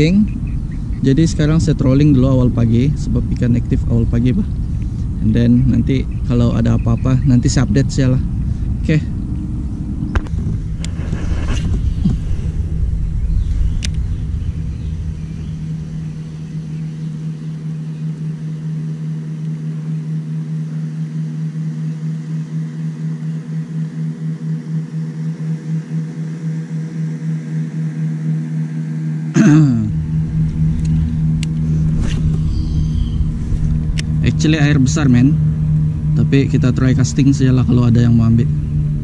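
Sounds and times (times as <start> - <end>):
pulsing drive unit hum: 0.0 - 39.0.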